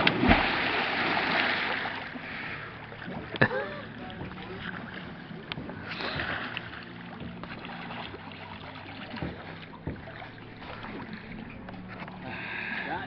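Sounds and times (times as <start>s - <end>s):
low steady hum: 0.0s - 12.8s
water splashing: 0.0s - 13.0s.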